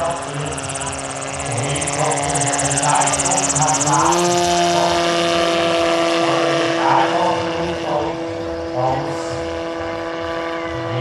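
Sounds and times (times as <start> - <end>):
electric motor and propeller: 0.0 - 11.0.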